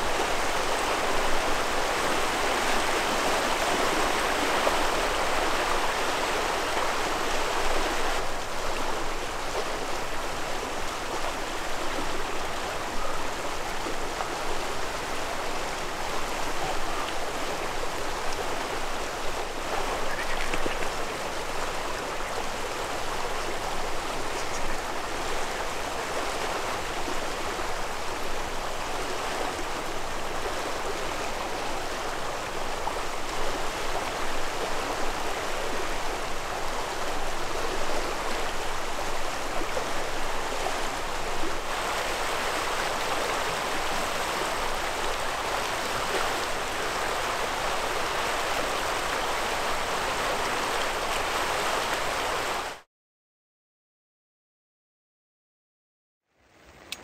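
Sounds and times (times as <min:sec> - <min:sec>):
river water rushing: 0:00.0 - 0:52.8.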